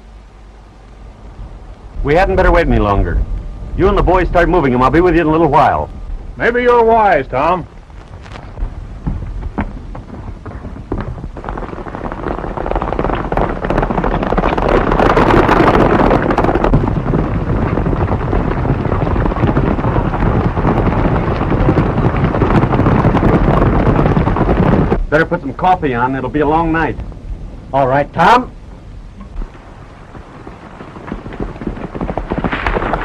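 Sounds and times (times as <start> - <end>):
galloping cattle hooves rumbling: 2.0 - 33.0.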